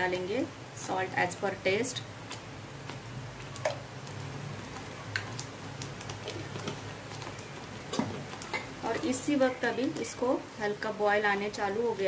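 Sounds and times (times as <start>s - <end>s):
curry gravy simmering: 1.4s - 11.6s.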